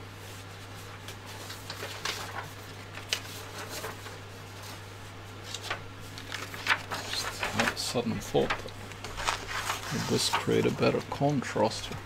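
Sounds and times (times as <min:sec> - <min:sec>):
steady low hum: 0:00.0 - 0:12.0
soft rustling and handling noises: 0:00.1 - 0:12.0.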